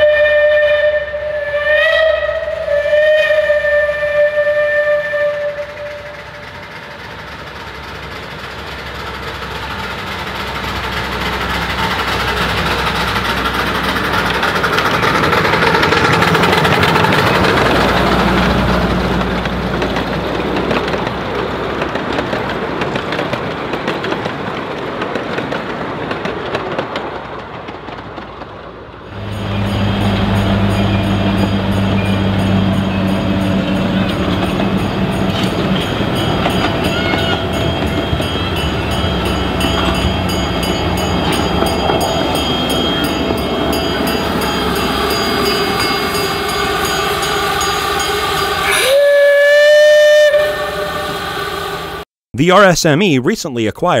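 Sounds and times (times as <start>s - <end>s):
steam train passing: 0.0s - 53.6s.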